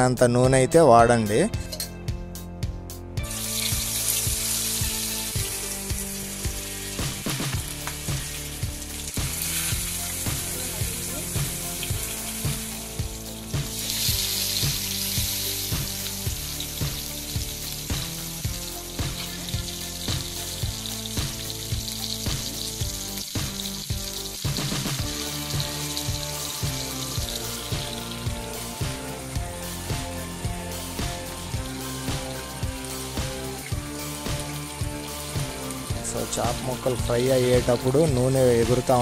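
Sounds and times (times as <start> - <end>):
background music with steady beat: 0.0 - 39.0
fish sizzling in hot oil: 3.2 - 39.0.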